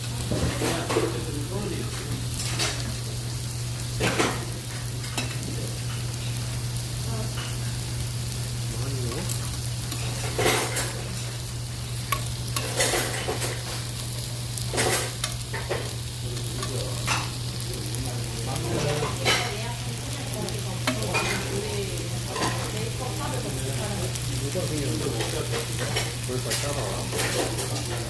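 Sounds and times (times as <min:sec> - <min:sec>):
meat sizzling on a grill: 0:00.0 - 0:28.0.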